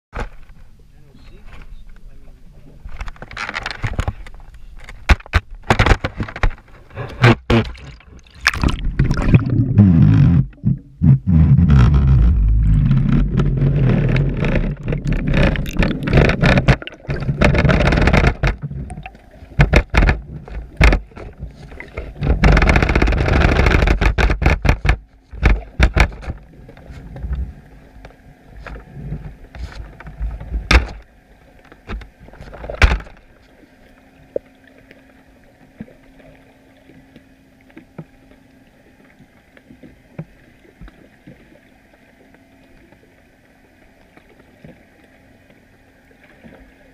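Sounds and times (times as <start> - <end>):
faint steady hum: 0.2 - 46.9
underwater rushing water: 6.2 - 46.9.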